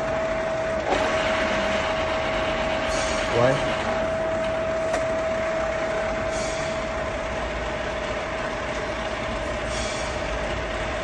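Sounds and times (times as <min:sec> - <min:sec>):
milling machine whine: 0:00.0 - 0:11.0.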